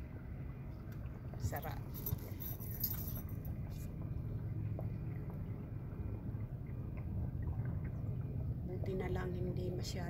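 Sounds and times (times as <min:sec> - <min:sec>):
motorboat engine rumble: 0:00.0 - 0:10.0.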